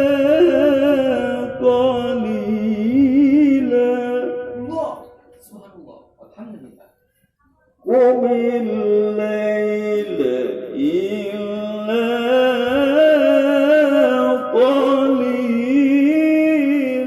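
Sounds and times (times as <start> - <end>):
man reciting in melodic chant: 0.0 - 7.0, 7.8 - 17.0.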